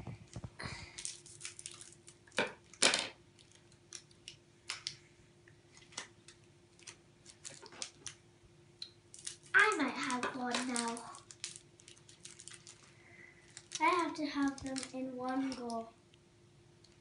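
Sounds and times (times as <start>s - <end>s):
plastic wrappers crinkling: 0.3s - 5.0s, 5.7s - 8.2s, 9.1s - 15.9s.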